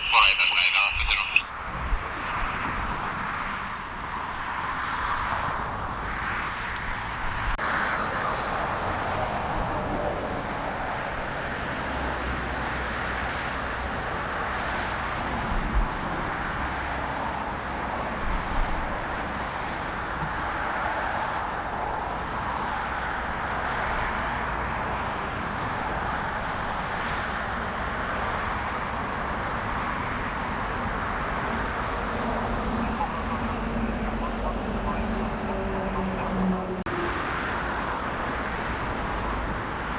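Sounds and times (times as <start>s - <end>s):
jet engines roaring: 0.0s - 39.9s
wind buffeting microphone: 1.5s - 35.8s.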